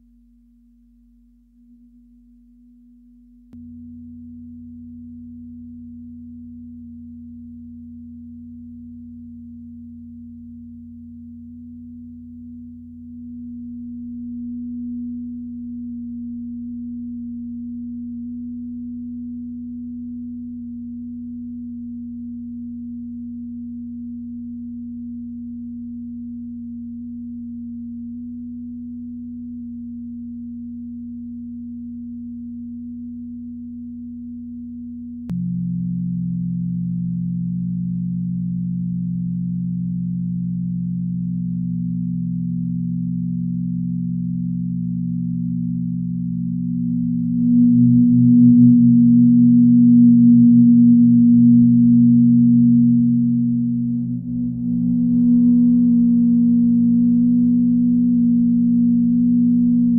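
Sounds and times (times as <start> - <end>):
drone music low tone: 0.0 - 59.9.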